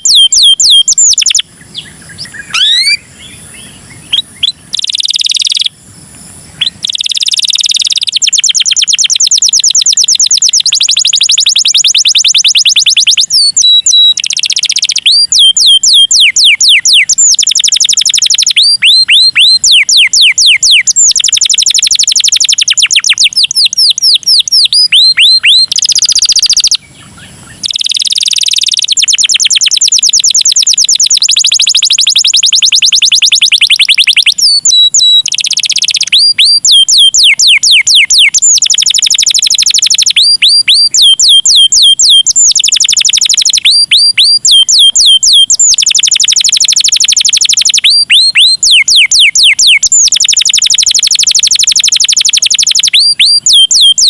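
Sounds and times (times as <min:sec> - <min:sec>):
canary singing fast trills: 0:00.0 - 0:54.0.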